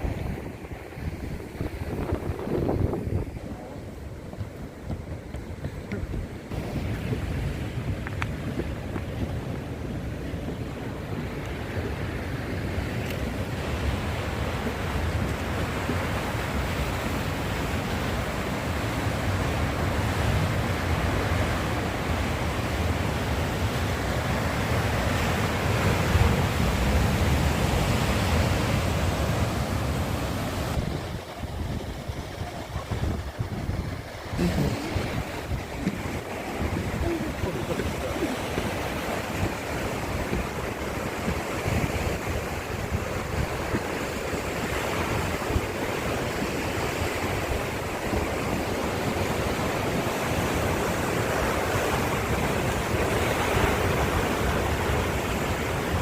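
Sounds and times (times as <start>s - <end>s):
surf breaking on shore: 0.0s - 56.0s
wind on microphone: 0.0s - 56.0s.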